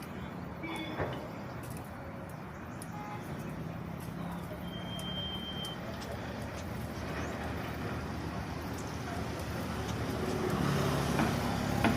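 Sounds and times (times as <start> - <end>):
road vehicle rumble: 0.0 - 11.9.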